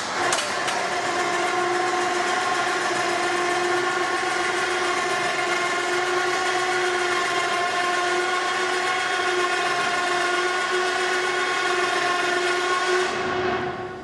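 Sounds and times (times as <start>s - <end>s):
electric winch motor whining: 0.0s - 14.0s.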